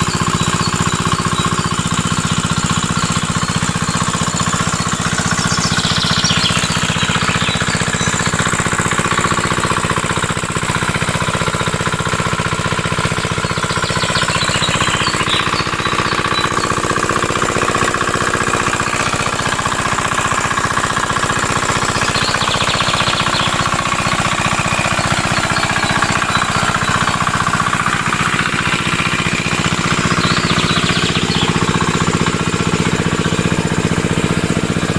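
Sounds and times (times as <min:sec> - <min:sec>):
small engine knocking steadily: 0:00.0 - 0:34.9.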